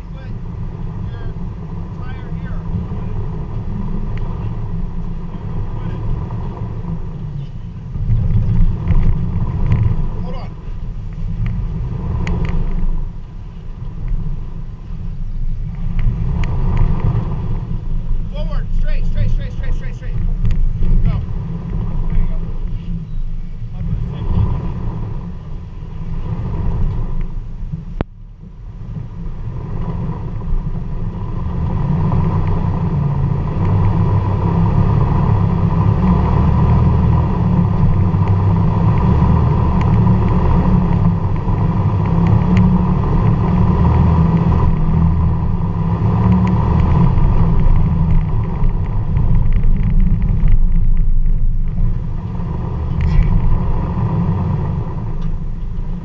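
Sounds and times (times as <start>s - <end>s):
engine rumbling at crawling speed: 0.0s - 56.0s.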